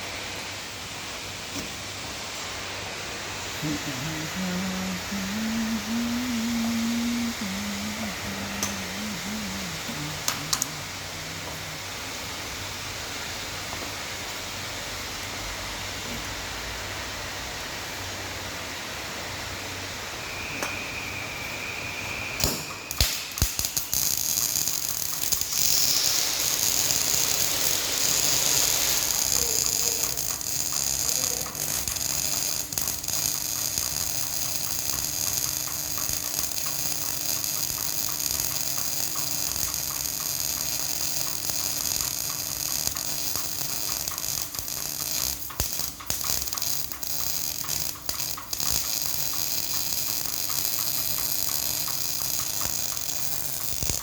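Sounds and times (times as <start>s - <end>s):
welding arc crackling: 0.0s - 16.2s, 22.3s - 54.0s.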